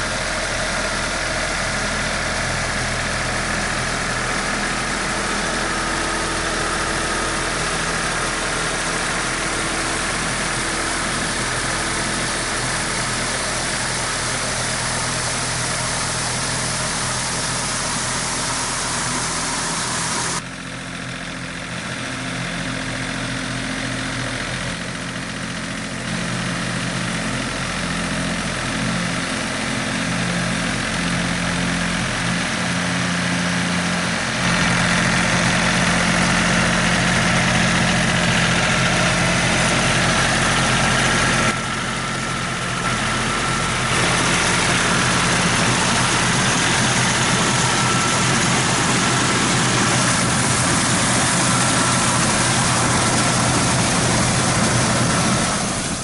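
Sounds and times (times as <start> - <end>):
harrow churning mud and water: 0.0 - 20.4, 24.8 - 56.0
tractor diesel engine running: 0.0 - 56.0.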